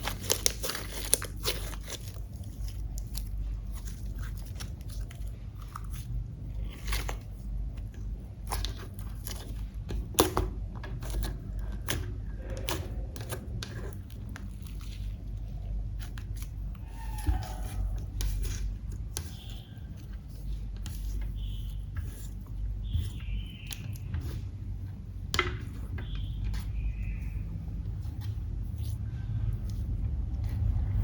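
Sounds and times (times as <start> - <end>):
slime squelching by hand: 0.0 - 31.0
steady low hum: 0.0 - 31.0.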